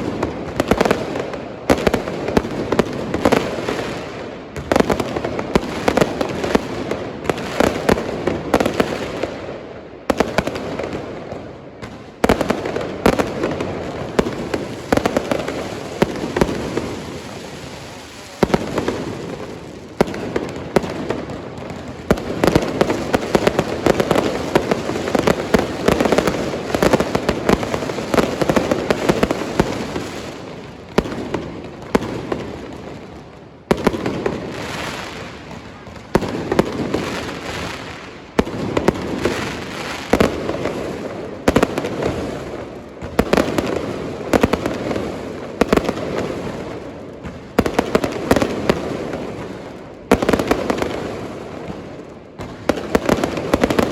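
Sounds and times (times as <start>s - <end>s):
fireworks bursting: 0.0s - 53.9s
fireworks crackling: 0.0s - 53.9s.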